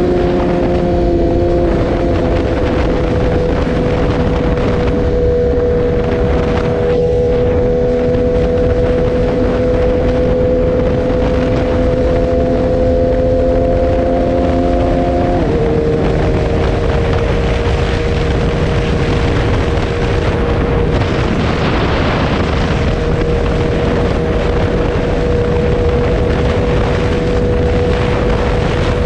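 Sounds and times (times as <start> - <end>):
motorcycle engine cruising: 0.0 - 29.0
wind over microphone: 0.0 - 29.0.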